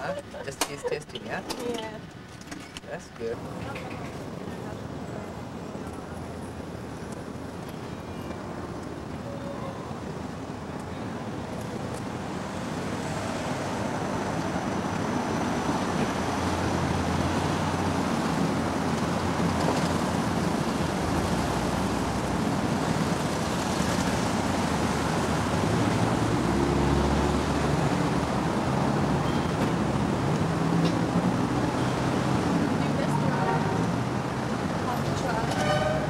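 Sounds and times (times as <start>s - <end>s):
rush of passing cars: 0.0s - 36.0s.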